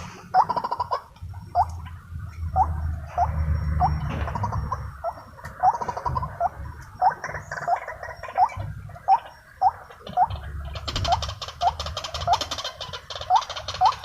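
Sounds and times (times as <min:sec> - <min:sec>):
waterhen calling: 0:00.0 - 0:14.0.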